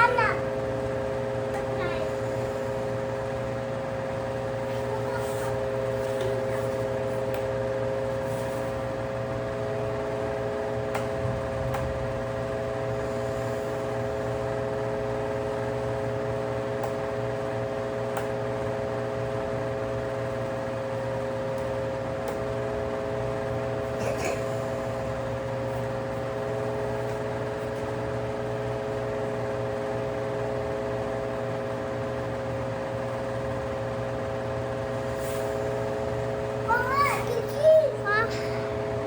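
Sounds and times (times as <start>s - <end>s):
electric fan running: 0.0s - 39.0s.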